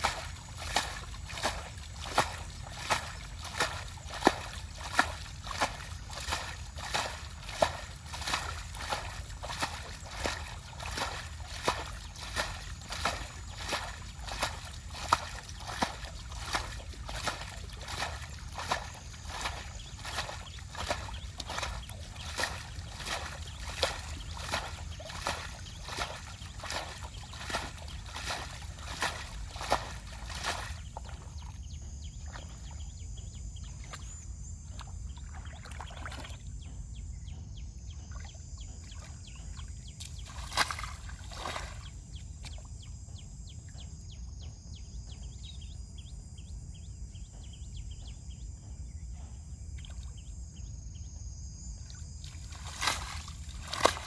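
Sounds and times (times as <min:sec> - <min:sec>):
water sloshing and splashing: 0:00.0 - 0:36.8, 0:38.0 - 0:43.2, 0:51.8 - 0:54.0
low water noise: 0:00.0 - 0:44.2, 0:51.8 - 0:54.0.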